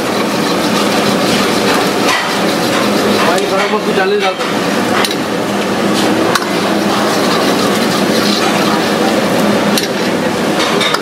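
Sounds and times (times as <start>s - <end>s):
paste sizzling in hot fat: 0.0s - 4.8s, 6.0s - 10.2s
gas burner noise: 0.0s - 11.0s.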